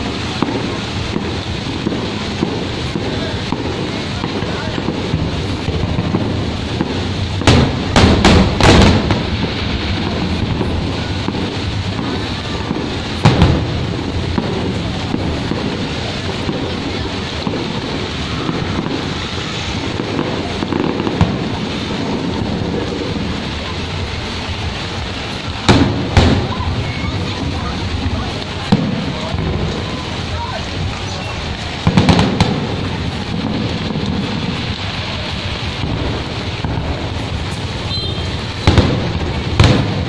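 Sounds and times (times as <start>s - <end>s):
fireworks bangs: 0.0s - 40.0s
rain hissing: 0.0s - 40.0s.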